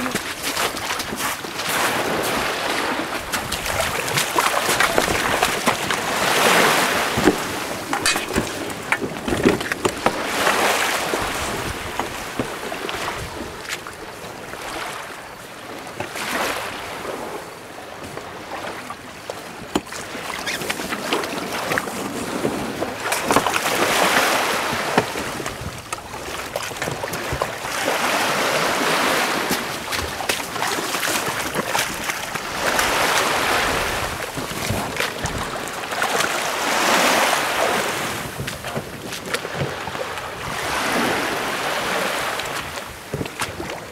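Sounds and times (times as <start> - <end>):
sea water splashing around boat: 0.0 - 43.9.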